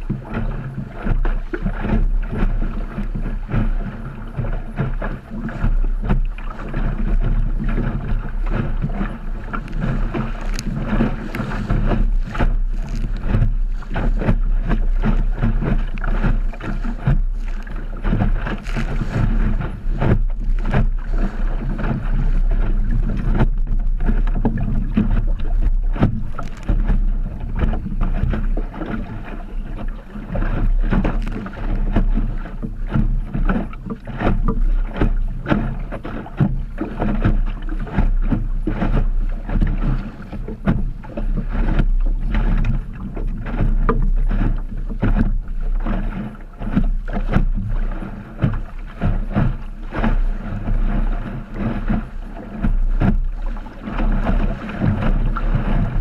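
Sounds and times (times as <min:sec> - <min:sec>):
low rumble: 0:00.0 - 0:56.0
water slapping against hull: 0:00.0 - 0:56.0
wind buffeting microphone: 0:00.0 - 0:56.0.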